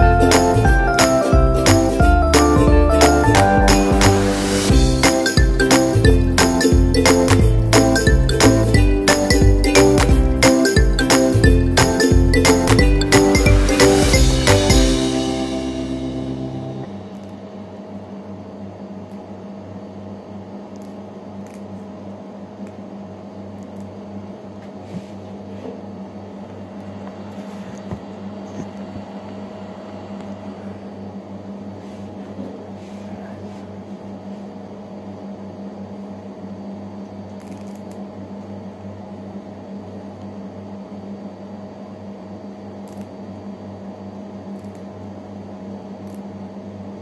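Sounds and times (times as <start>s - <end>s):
electrical appliance hum: 0.0s - 47.0s.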